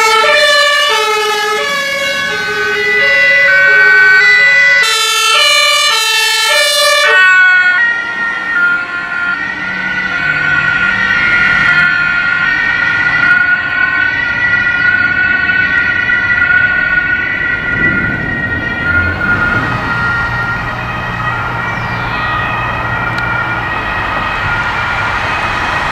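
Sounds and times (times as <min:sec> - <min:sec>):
road and engine noise: 0:00.0 - 0:25.9
two-tone emergency siren: 0:00.0 - 0:25.9.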